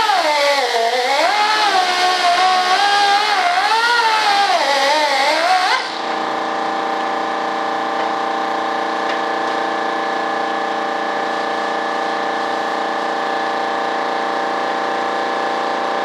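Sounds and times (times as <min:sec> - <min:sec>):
electric drill whining: 0:00.0 - 0:16.0.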